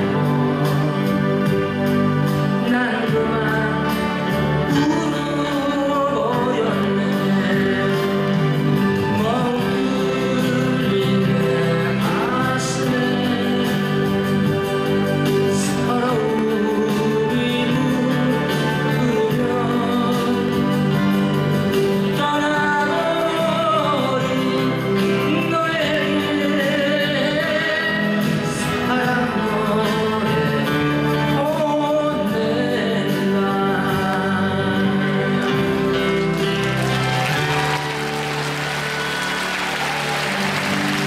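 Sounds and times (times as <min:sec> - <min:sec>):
person singing: 0:00.0 - 0:41.0.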